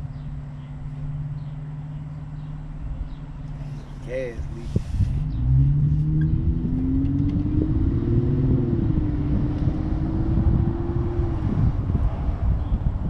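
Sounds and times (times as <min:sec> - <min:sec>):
dirt bike engine rumbling: 0:00.0 - 0:13.0.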